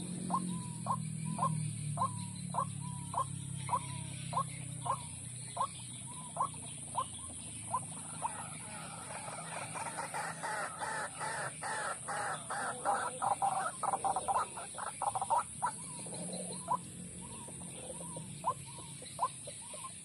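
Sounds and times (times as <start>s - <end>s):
waterhen croaking calls: 0.0s - 20.0s.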